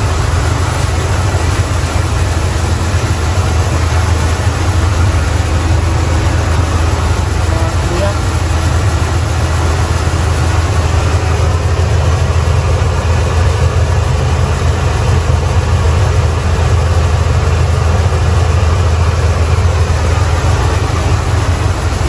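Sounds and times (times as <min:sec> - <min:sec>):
machine motor humming: 0:00.0 - 0:22.0.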